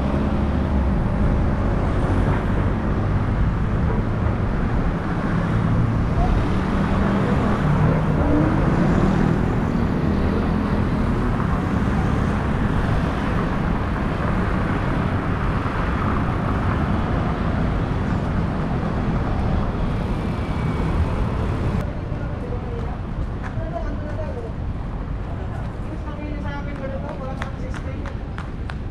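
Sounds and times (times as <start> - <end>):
city road traffic: 0.0 - 28.9.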